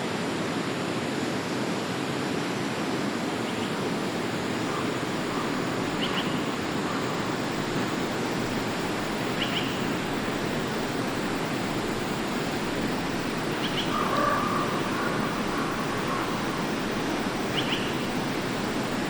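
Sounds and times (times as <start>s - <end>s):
stream rushing: 0.0s - 19.0s.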